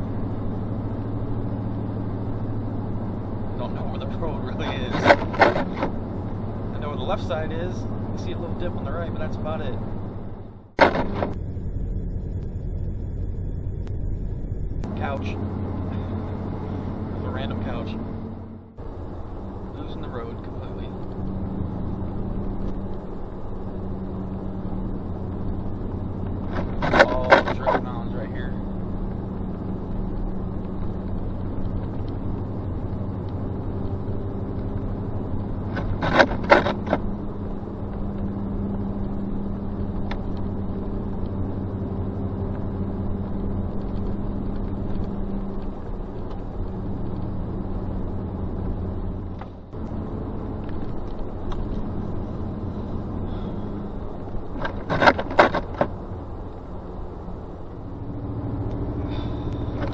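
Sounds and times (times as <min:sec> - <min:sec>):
car engine and tyres: 0:00.0 - 0:59.9.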